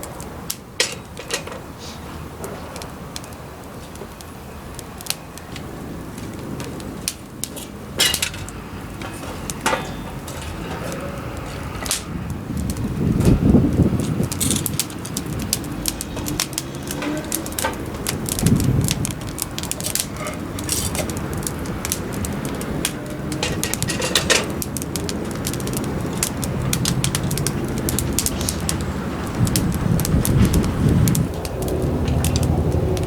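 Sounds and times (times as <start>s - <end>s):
low rush of fire: 0.0s - 33.0s
wood fire crackling and popping: 0.0s - 33.0s.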